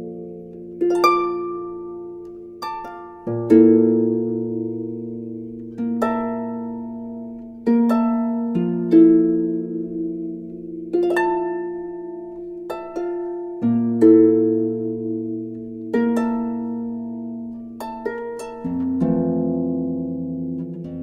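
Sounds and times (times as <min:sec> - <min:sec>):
plucked-string notes: 0:00.0 - 0:21.0.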